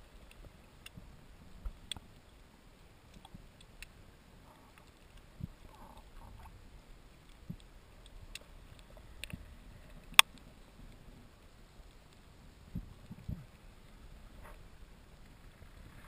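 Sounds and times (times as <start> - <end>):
faint underwater clicks: 0.0 - 16.0.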